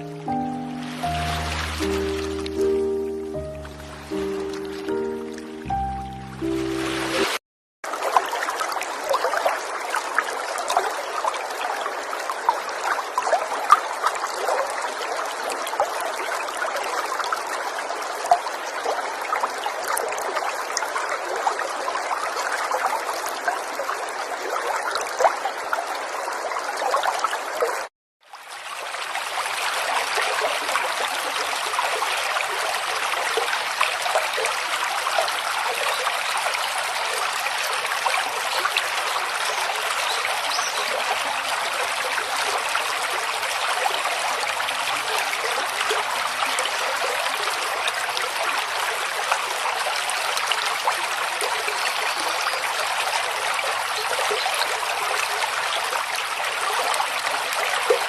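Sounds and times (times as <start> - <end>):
river water babbling over stones: 0.0 - 58.0.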